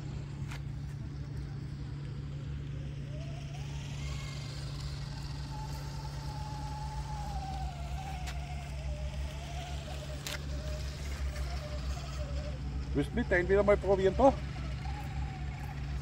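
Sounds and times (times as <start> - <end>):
electric motor and gearbox whining: 0.0 - 16.0.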